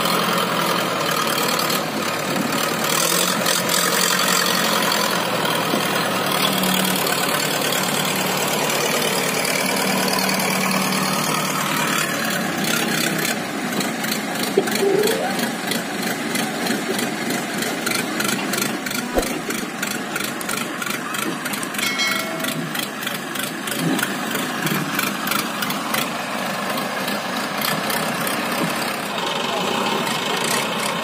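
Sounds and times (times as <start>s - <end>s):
diesel engines running: 0.0s - 31.0s.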